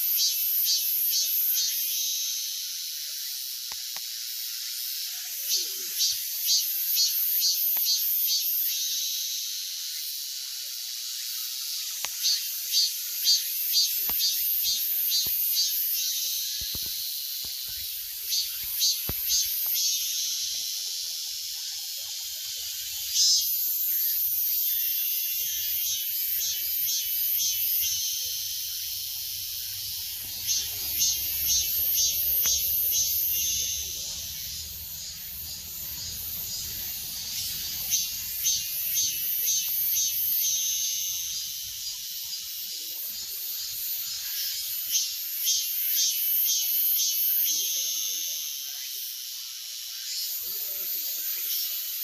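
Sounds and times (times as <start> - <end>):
cicadas singing in pulses: 0.0 - 52.0.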